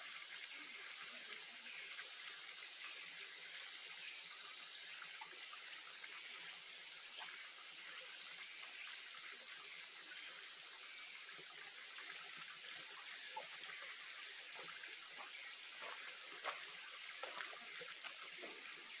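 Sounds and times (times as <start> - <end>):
stream gurgling and splashing: 0.0 - 19.0.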